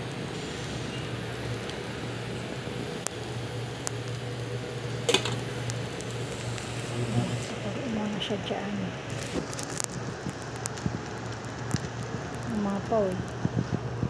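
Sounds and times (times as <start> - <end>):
cooktop cooling fan hum: 0.0 - 14.0.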